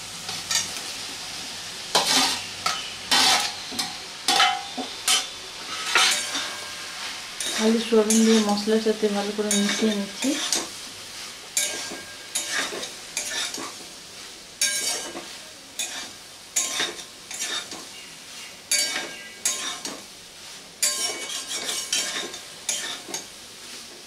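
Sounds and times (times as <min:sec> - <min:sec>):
frying sizzle: 0:00.0 - 0:24.0
metal spatula scraping a pan: 0:01.9 - 0:13.8, 0:14.6 - 0:20.0, 0:20.8 - 0:23.3.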